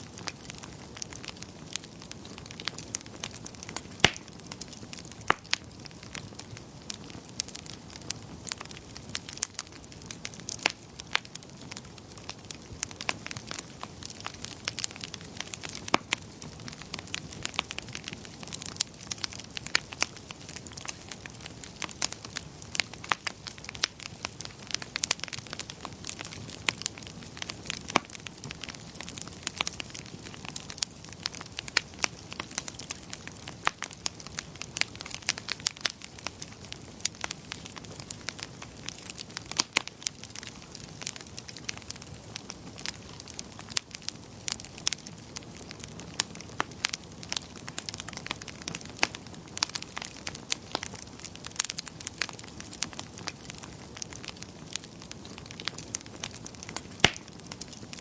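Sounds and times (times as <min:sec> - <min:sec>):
low hiss of burning: 0:00.0 - 0:58.0
wood fire crackling: 0:00.0 - 0:58.0.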